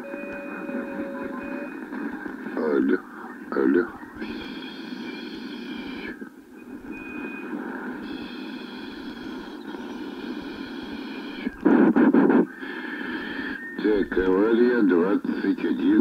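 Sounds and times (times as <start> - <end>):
radio signal burst: 0.0 - 16.0
radio static hiss: 0.0 - 16.0.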